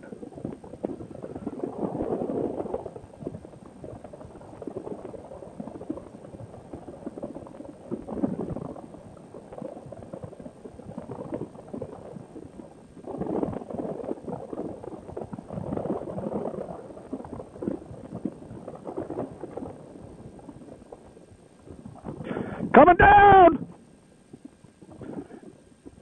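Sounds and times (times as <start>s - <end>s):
light crackle: 0.0s - 26.0s.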